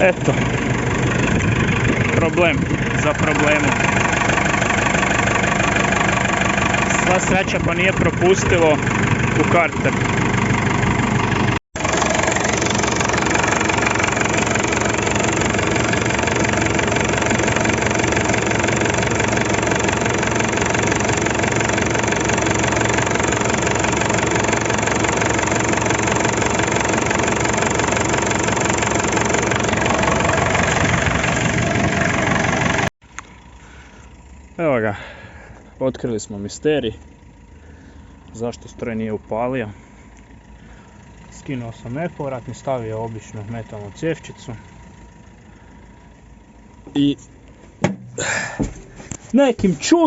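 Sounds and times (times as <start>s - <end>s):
diesel engine idling: 0.0s - 50.0s.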